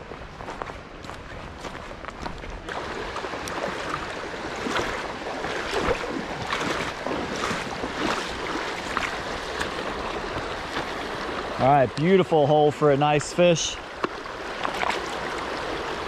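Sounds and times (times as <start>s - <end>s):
footsteps splashing in creek: 0.0s - 16.0s
flowing water rushing: 0.1s - 16.0s.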